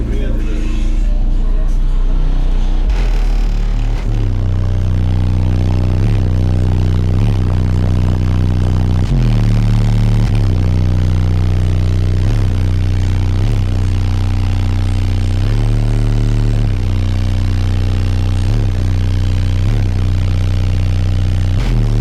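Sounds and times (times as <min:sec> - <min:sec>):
subwoofer deep bass notes: 0:00.0 - 0:22.0.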